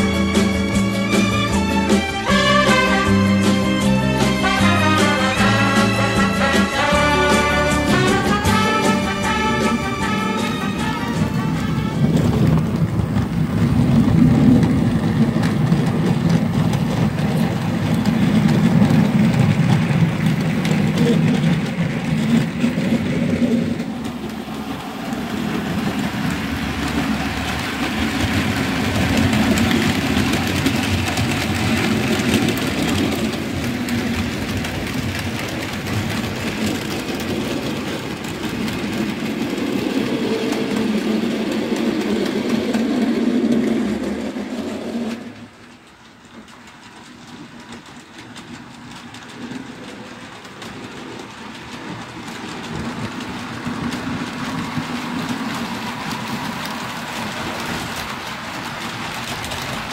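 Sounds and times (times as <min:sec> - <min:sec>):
model locomotive running on track: 0:00.0 - 0:59.9.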